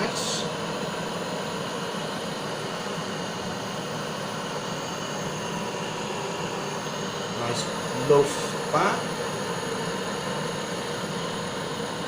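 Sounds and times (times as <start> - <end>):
blowtorch flame hissing: 0.0 - 12.0.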